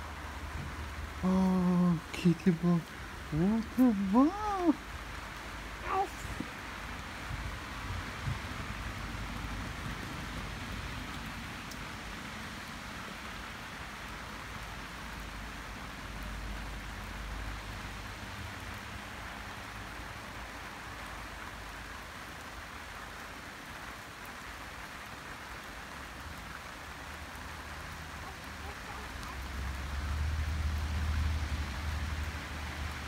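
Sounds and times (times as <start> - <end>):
rain on grass: 0.0 - 33.0.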